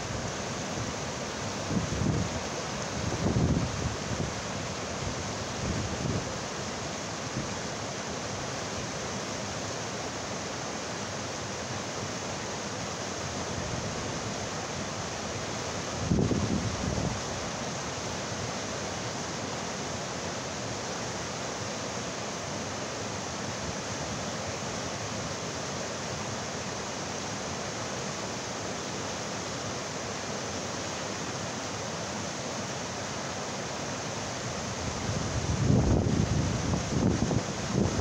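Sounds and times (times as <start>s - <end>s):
river rapids rushing over boulders: 0.0s - 38.0s.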